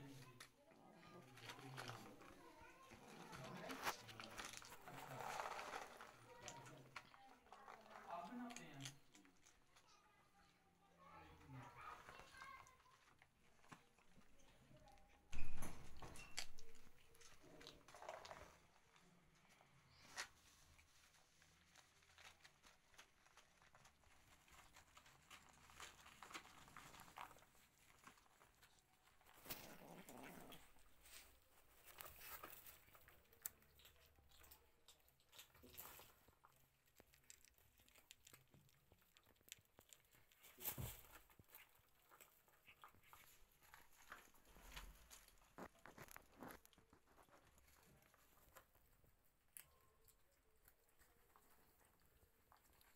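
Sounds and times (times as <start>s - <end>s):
kittens crunching dry kibble: 0.0s - 52.9s.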